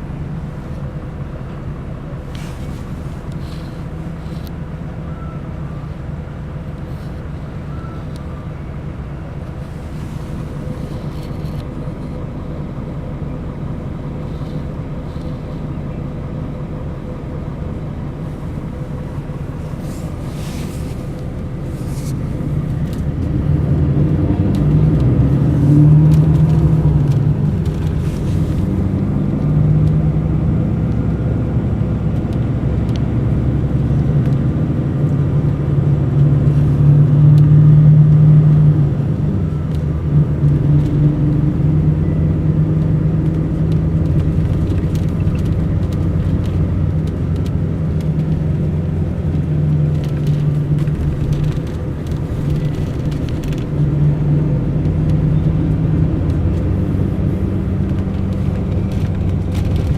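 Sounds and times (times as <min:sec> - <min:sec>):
coach diesel engine droning: 0:00.0 - 0:59.9.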